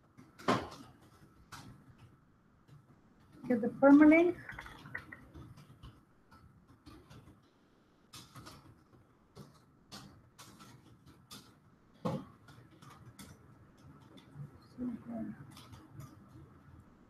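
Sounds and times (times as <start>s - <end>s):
computer keyboard typing: 0.2s - 7.5s, 8.1s - 17.0s.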